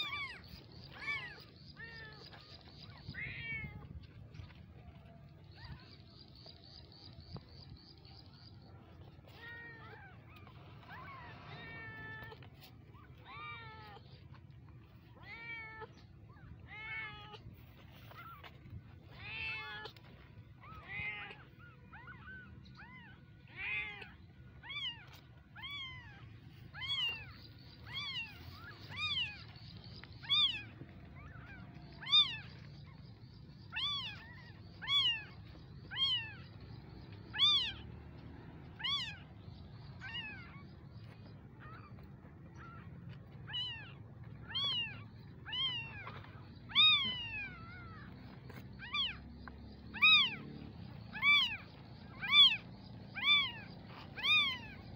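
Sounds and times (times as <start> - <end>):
kittens mewing: 0.0 - 6.4, 8.8 - 54.9.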